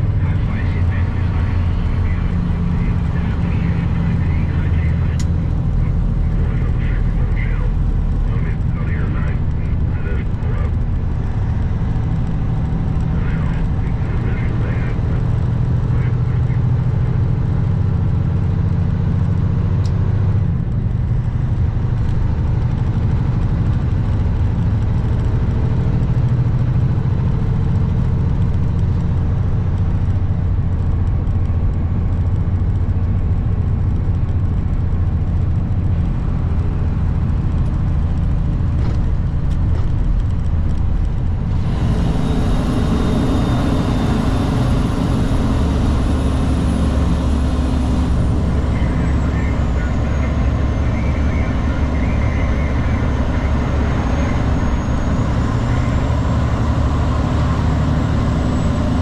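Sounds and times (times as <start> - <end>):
road and wind noise: 0.0 - 59.0
truck diesel engine running: 0.0 - 59.0.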